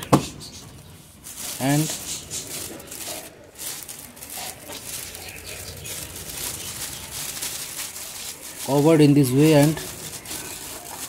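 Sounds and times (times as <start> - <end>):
plastic bag crinkling and rustling: 0.8 - 11.0.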